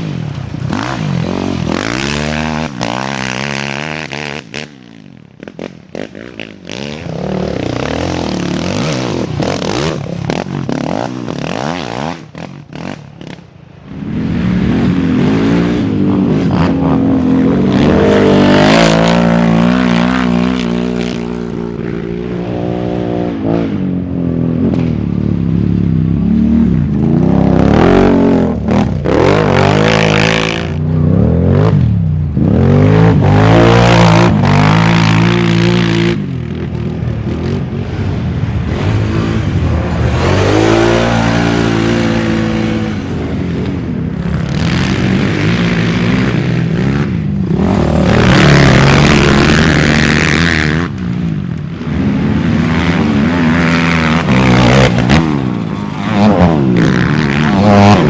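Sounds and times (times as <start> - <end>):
quad engines revving hard: 0.0 - 13.5, 14.1 - 23.8, 26.2 - 58.0.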